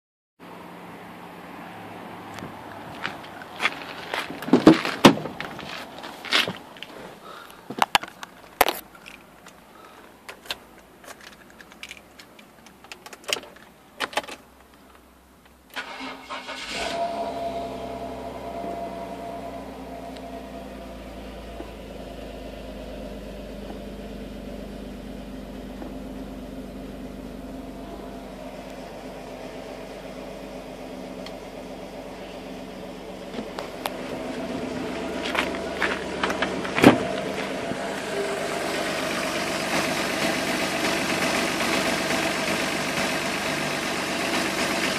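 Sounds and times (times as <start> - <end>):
car engine starting and idling: 0.4 - 44.9.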